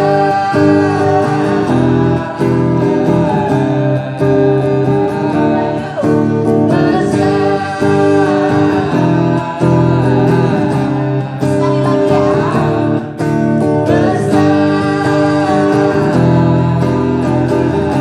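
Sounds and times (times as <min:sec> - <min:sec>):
acoustic guitar: 0:00.0 - 0:18.0
person singing worship song: 0:00.0 - 0:18.0.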